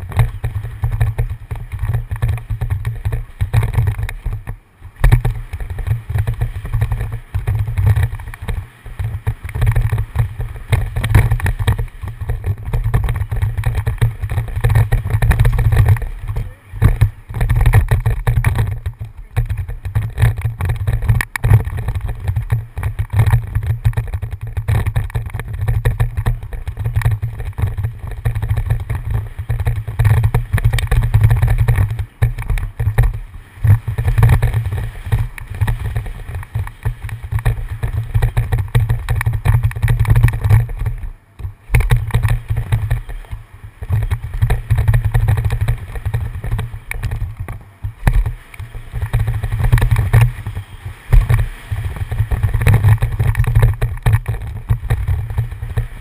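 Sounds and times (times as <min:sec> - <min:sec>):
bike rattling over rough trail: 0:00.0 - 0:56.0
wind buffeting microphone: 0:00.0 - 0:56.0.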